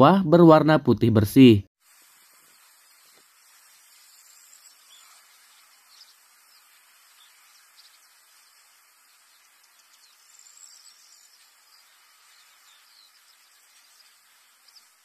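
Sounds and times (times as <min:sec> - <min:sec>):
steady high hiss: 0:01.4 - 0:15.0.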